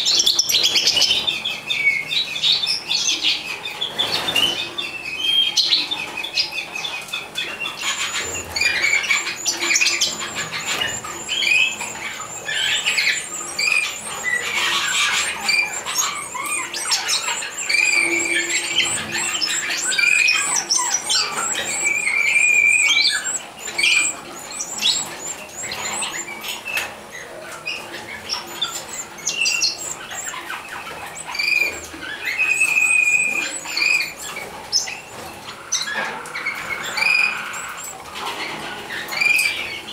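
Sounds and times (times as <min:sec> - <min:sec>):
nestling birds chirping: 0:00.0 - 0:39.9.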